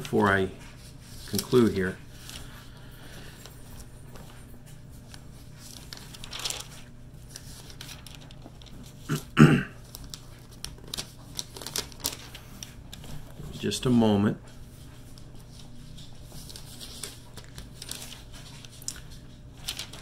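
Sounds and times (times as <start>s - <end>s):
paper pages rustling: 0.0s - 9.2s, 9.8s - 20.0s
faint steady hum: 0.0s - 20.0s.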